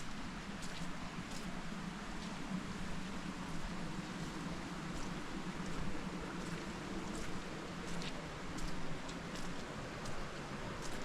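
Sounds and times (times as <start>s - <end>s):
soft footsteps on path: 0.0s - 11.0s.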